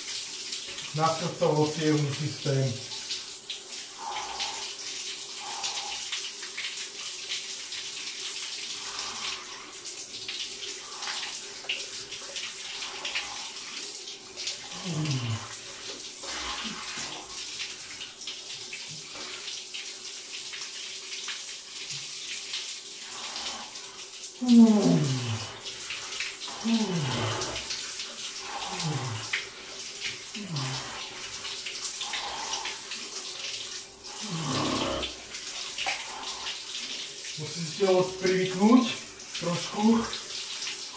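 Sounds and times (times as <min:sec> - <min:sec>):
shower water splashing: 0:00.0 - 0:40.9.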